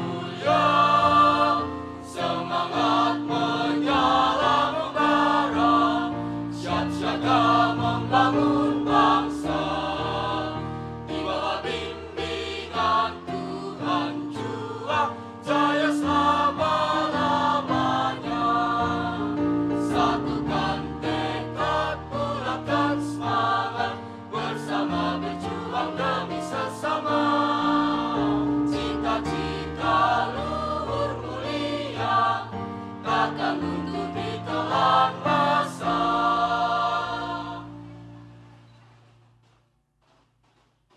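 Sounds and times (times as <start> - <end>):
choir singing a march: 0.0 - 39.1.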